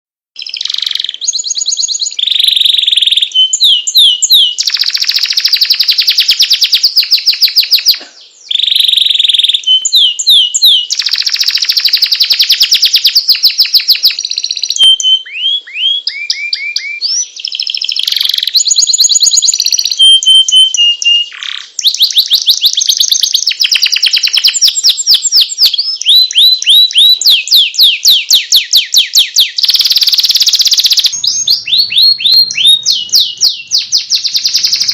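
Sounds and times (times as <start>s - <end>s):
canary singing trills: 0.4s - 34.9s.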